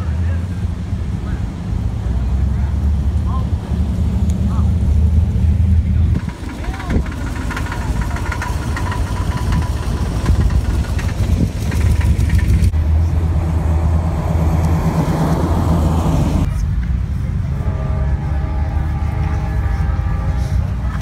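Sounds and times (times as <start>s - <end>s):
cars driving past rumbling: 0.0s - 21.0s.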